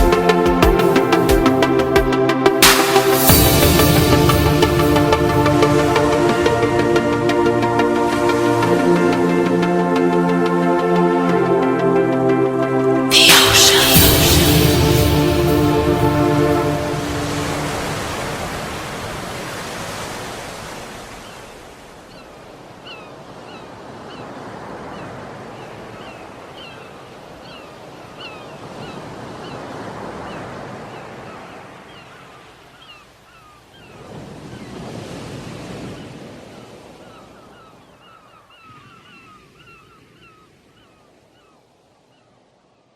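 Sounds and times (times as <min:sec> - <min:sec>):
sea waves washing in: 0:00.0 - 0:32.1, 0:33.8 - 0:40.9.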